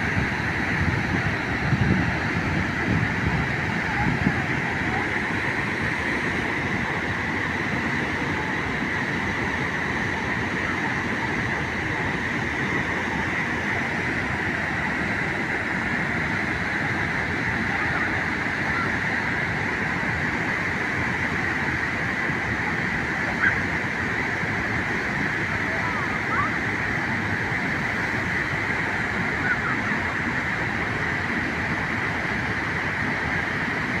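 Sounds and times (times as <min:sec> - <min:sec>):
water rushing at a dam: 0:00.0 - 0:34.0.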